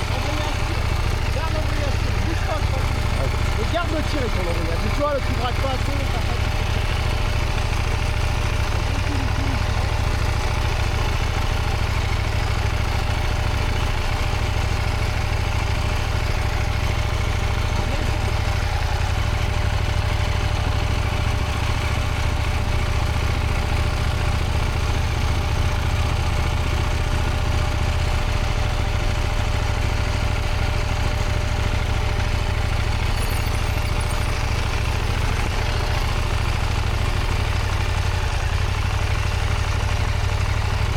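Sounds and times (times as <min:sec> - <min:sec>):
motorcycle engine idling low: 0:00.0 - 0:40.9.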